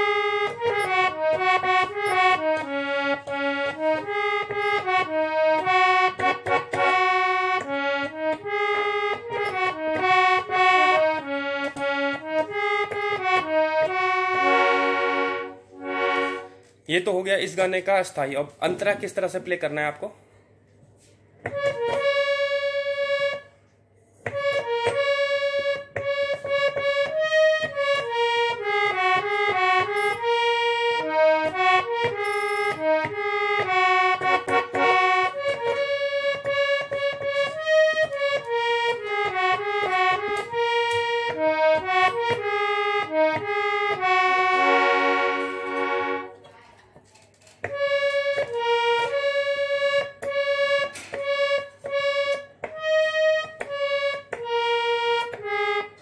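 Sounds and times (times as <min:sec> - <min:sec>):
harmonium key clicks: 0:00.0 - 0:15.2, 0:21.4 - 0:22.3, 0:24.2 - 0:56.0
harmonium melody: 0:00.0 - 0:56.0.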